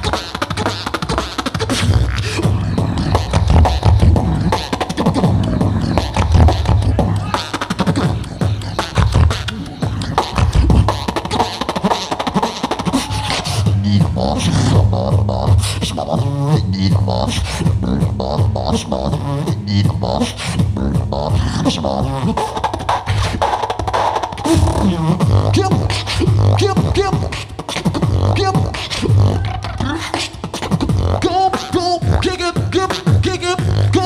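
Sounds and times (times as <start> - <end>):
beatboxing into a microphone: 0.0 - 34.0
hummed pitched lines: 0.0 - 34.0.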